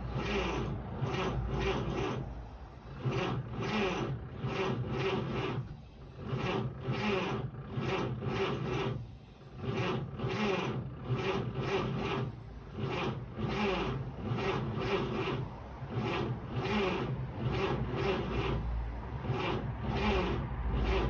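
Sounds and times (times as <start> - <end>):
starter motor cranking engine: 0.0 - 21.0.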